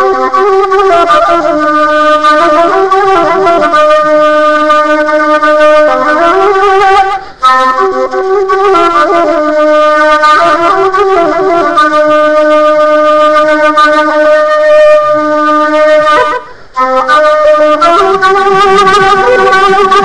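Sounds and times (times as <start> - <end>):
reedy wind instrument melody: 0.0 - 20.0.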